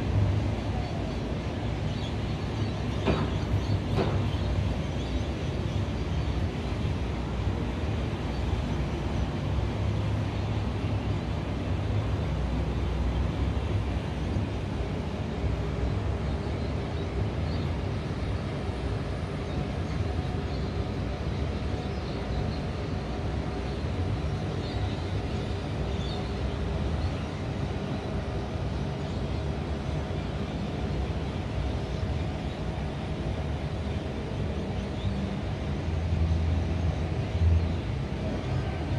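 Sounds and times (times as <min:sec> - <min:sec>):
distant traffic hum: 0:00.0 - 0:38.9.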